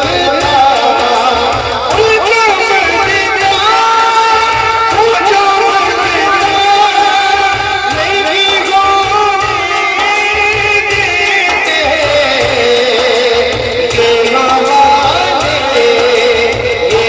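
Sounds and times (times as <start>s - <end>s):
low steady beat: 0.0s - 17.0s
man singing through pa system: 0.0s - 17.0s.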